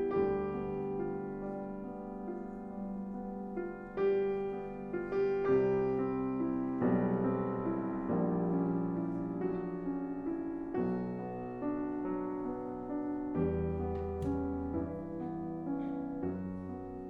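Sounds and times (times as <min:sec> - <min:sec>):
gentle solo piano: 0:00.0 - 0:17.0.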